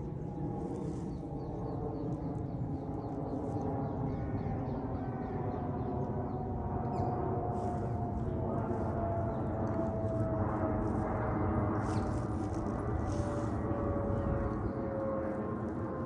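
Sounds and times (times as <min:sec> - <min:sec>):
jet engines passing overhead: 0:00.0 - 0:16.0.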